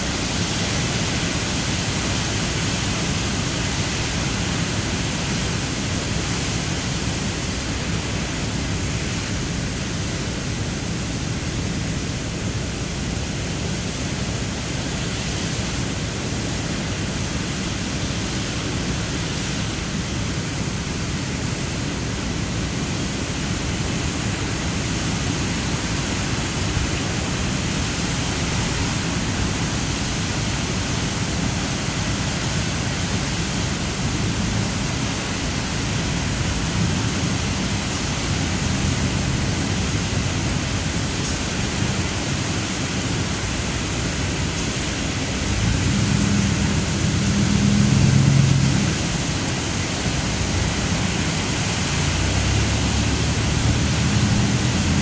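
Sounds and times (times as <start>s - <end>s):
floodwater rushing through dam: 0.0s - 55.0s.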